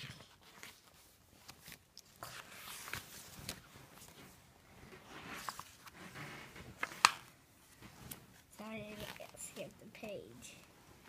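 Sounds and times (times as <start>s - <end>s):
book pages rustling: 0.0s - 10.7s.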